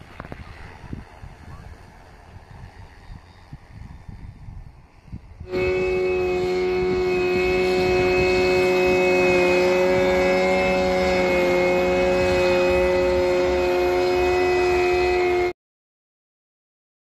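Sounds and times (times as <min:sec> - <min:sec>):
drone hum of held tones: 0:00.0 - 0:15.5.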